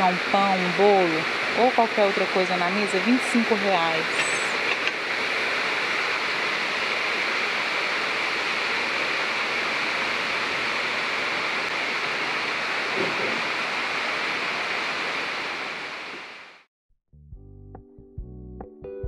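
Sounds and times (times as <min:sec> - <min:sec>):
steady rushing hiss: 0:00.0 - 0:16.7.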